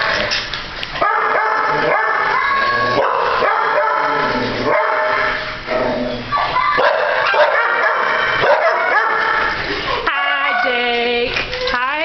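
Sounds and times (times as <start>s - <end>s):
dogs barking and yipping: 0.0s - 10.7s.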